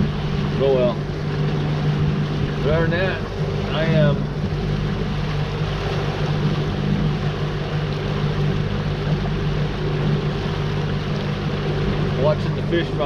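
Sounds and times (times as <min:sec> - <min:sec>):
outboard motor humming: 0:00.0 - 0:13.0
water rushing past boat: 0:00.0 - 0:13.0.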